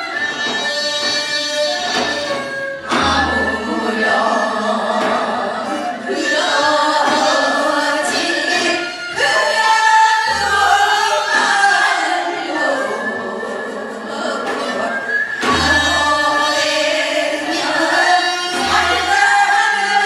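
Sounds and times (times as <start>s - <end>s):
voices singing a folk song: 0.0s - 20.0s.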